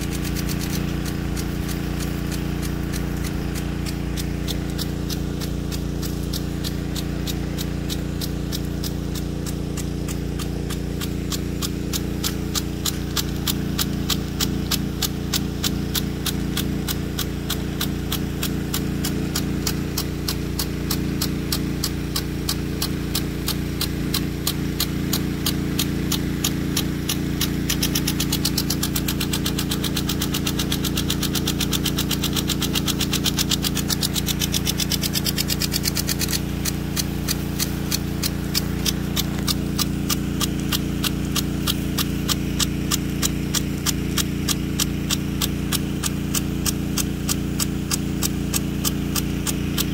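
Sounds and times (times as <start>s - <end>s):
impact sprinkler ticking: 0.0s - 49.9s
pump humming: 0.0s - 49.9s
water spray hissing: 0.0s - 49.9s.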